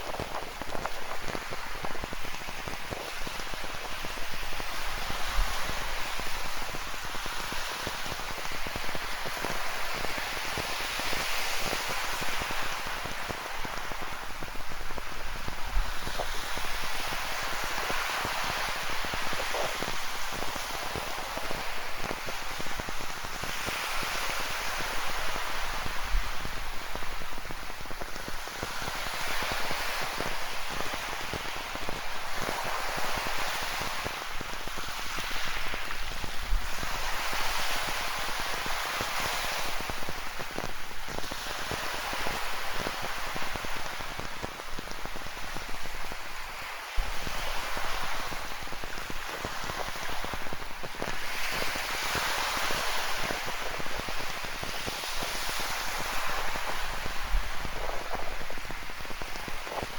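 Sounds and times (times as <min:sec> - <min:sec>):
ocean waves on a rocky shore: 0:00.0 - 0:59.9.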